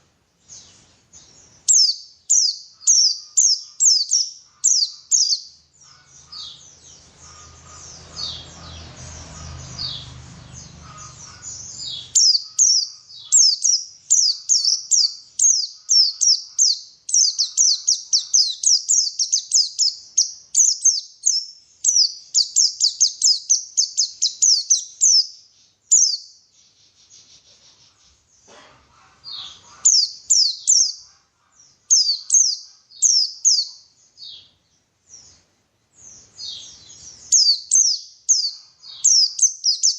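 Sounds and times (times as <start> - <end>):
bird high chirping song: 0.0 - 39.9.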